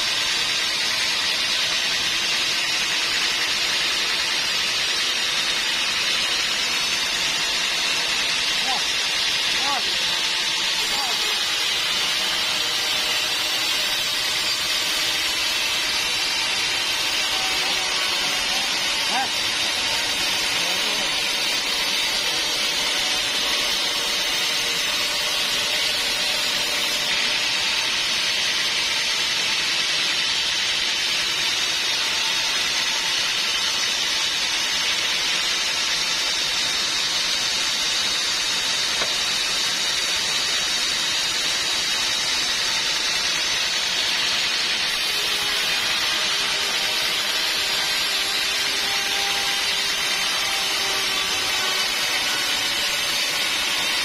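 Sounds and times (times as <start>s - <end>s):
saw blade cutting log: 0.0s - 54.0s.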